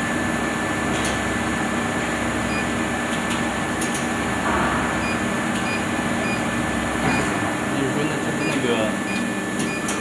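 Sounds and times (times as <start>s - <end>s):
machinery hum: 0.0s - 10.0s.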